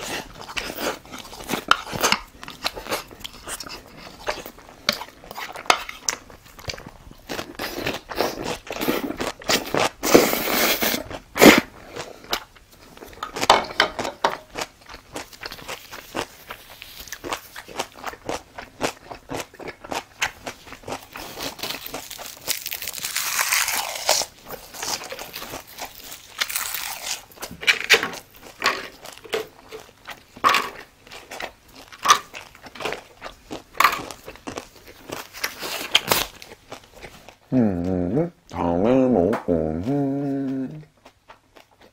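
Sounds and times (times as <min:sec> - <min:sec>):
crunchy chewing of pickled radish: 0:00.0 - 0:37.9, 0:39.7 - 0:41.9.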